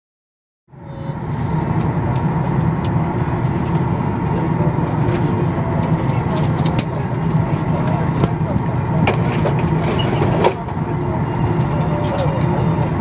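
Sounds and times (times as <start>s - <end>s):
jet engine rumble in cabin: 0.7s - 13.0s.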